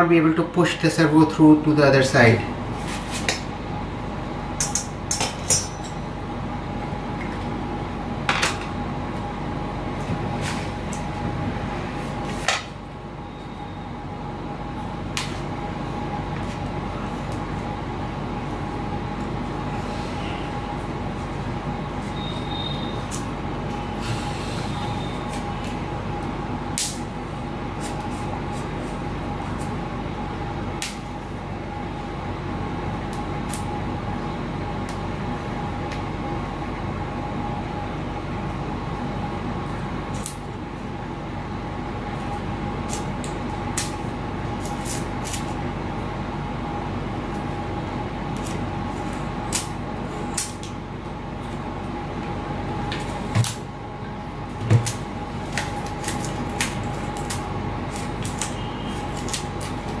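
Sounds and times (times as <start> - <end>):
steady hum with faint whine: 0.0 - 60.0.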